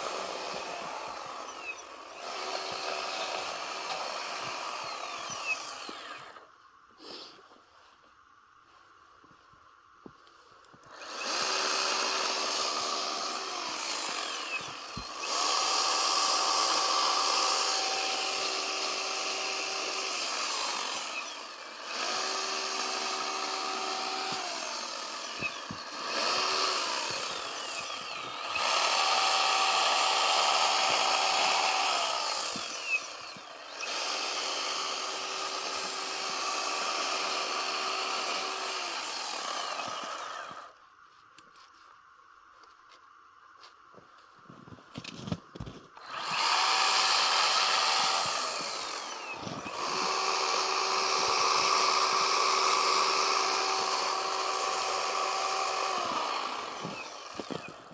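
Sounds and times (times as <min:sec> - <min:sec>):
chainsaw cutting packed snow: 0:00.0 - 0:07.4, 0:10.8 - 0:40.8, 0:44.5 - 0:57.9.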